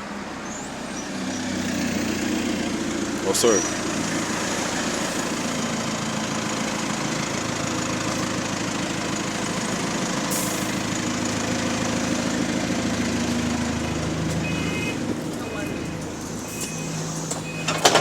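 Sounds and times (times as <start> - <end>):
bus diesel engine idling: 0.0 - 18.0.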